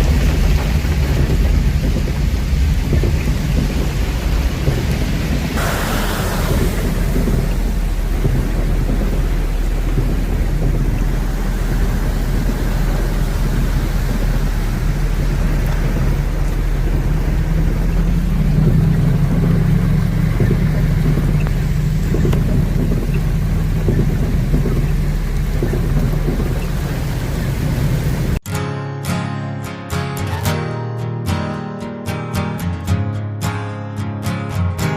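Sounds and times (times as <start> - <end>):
heavy rain falling: 0.0 - 28.4
low rumble: 0.0 - 28.4.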